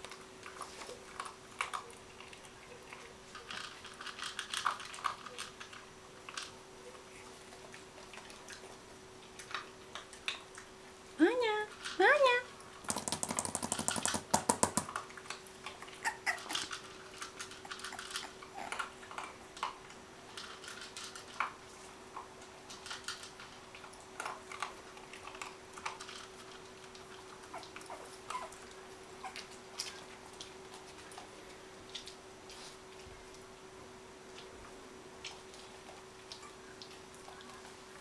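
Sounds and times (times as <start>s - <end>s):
puppies playing: 0.0s - 11.1s, 11.8s - 33.5s, 34.2s - 38.0s
faint steady hum: 0.0s - 38.0s.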